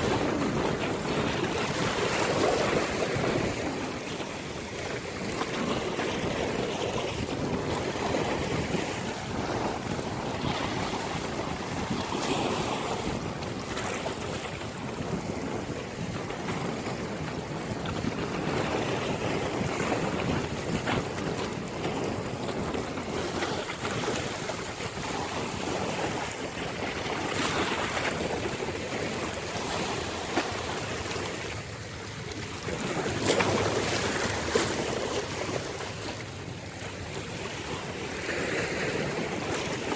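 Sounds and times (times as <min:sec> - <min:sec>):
ocean waves breaking on beach: 0:00.0 - 0:39.9
wind on microphone: 0:00.0 - 0:39.9.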